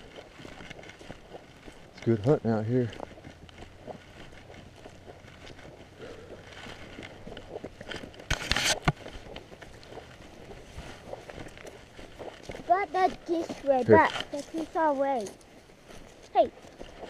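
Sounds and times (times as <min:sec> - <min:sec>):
footsteps on field: 0:00.0 - 0:17.0.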